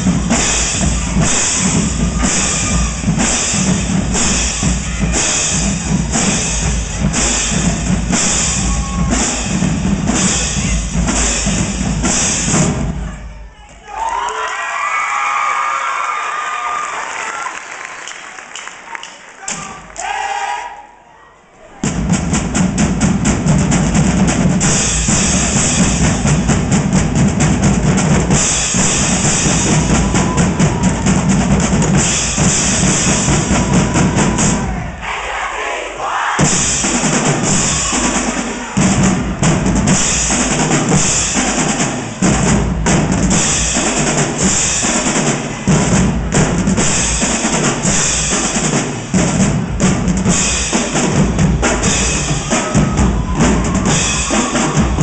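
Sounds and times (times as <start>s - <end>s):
marching drums: 0.0s - 13.6s, 21.8s - 55.0s.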